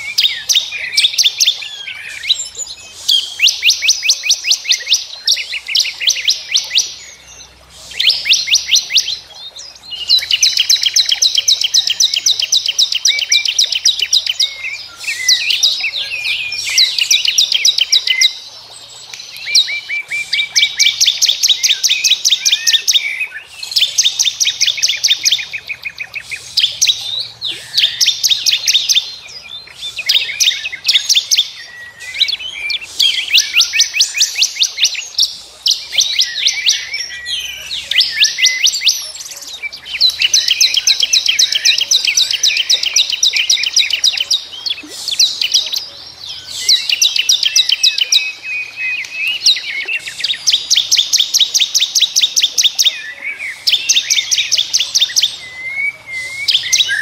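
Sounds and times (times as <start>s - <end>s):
songbird trilling: 0.0s - 57.0s.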